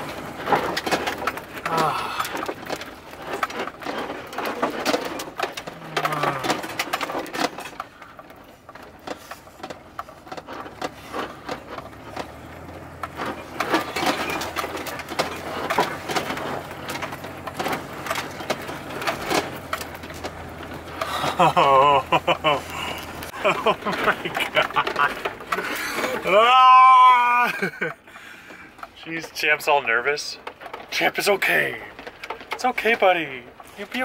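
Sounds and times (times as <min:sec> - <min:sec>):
low engine hum: 0:00.0 - 0:29.0
creaking squeaks: 0:00.0 - 0:34.0
van body and contents rattling: 0:00.0 - 0:34.0.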